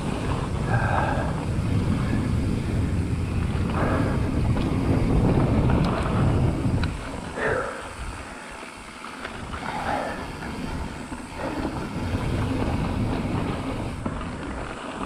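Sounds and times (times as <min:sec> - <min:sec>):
bike rattling: 0:00.0 - 0:15.0
tyres crunching over gravel: 0:00.0 - 0:15.0
wind rushing over microphone: 0:00.0 - 0:15.0.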